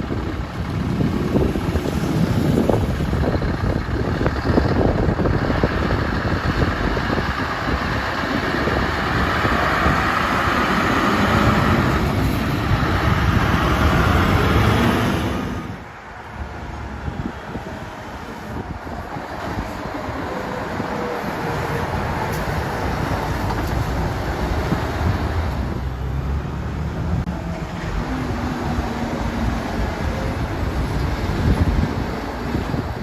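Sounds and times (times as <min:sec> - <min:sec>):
truck diesel engine driving past: 0:00.0 - 0:33.0.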